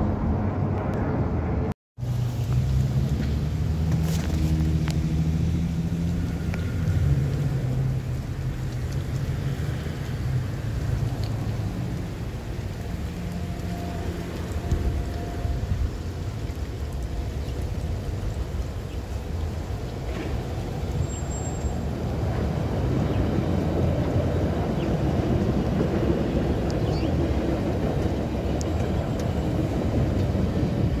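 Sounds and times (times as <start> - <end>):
street traffic engines: 0.0 - 31.0.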